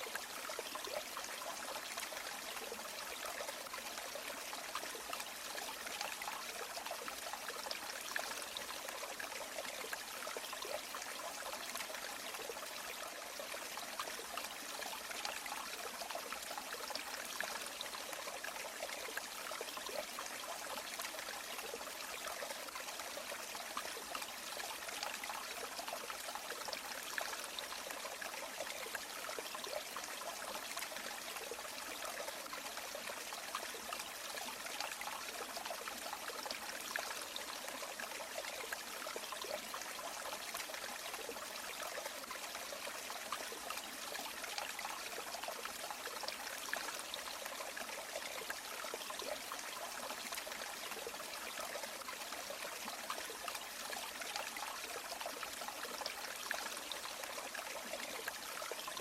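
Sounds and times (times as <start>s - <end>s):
river water trickling over stones: 0.0s - 59.0s.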